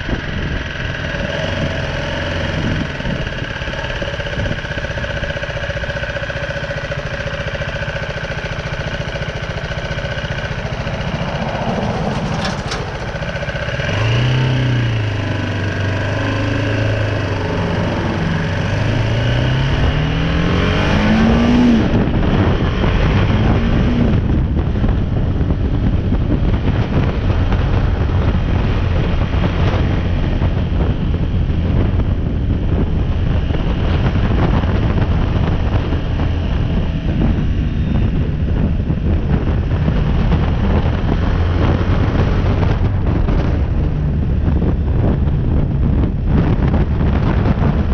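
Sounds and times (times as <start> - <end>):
motorcycle engine revving: 0.0 - 47.9
wind on microphone: 0.0 - 47.9.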